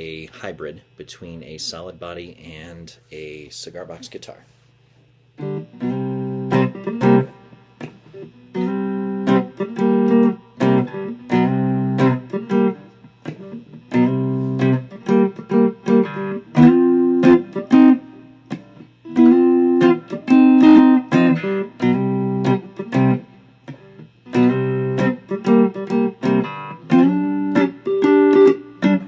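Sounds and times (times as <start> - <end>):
electric guitar strumming chords: 5.4 - 29.0.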